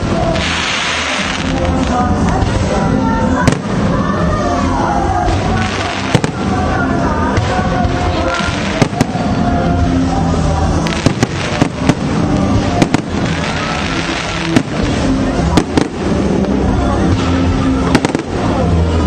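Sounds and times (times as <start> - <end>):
fireworks cracking: 0.0 - 19.0
music: 0.0 - 19.0.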